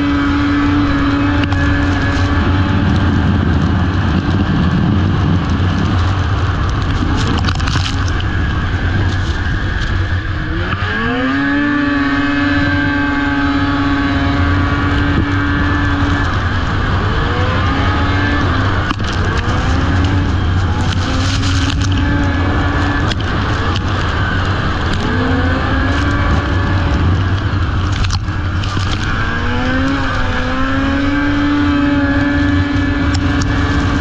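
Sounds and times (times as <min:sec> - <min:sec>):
loud rushing noise: 0:00.0 - 0:34.0
snowmobile engine revving: 0:00.0 - 0:34.0.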